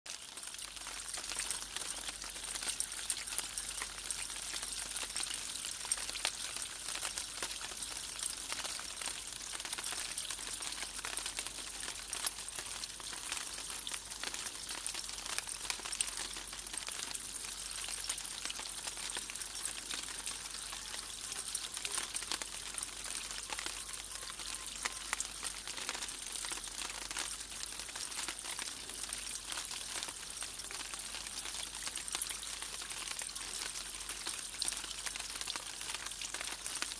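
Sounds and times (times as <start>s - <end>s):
water splashing down rain chain: 0.1s - 36.9s.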